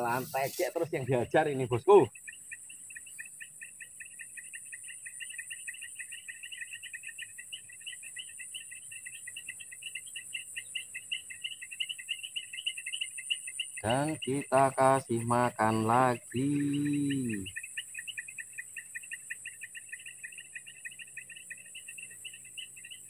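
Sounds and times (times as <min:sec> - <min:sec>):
high-pitched insect hiss: 0:00.0 - 0:23.0
insects chirping rapidly: 0:00.0 - 0:23.0.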